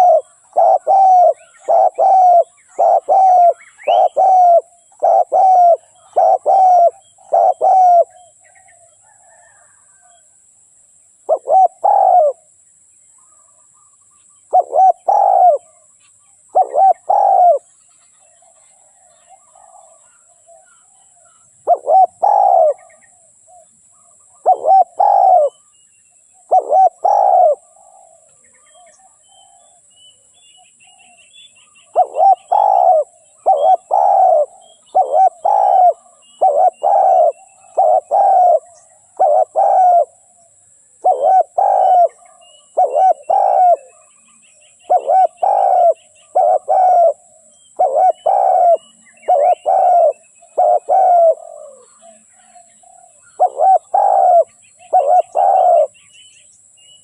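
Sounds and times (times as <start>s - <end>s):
dove cooing: 0.0s - 10.2s, 11.3s - 12.5s, 14.5s - 15.8s, 16.5s - 17.7s, 18.3s - 25.7s, 26.4s - 29.9s, 30.9s - 56.0s
small birds chirping: 0.0s - 10.2s, 13.1s - 57.0s.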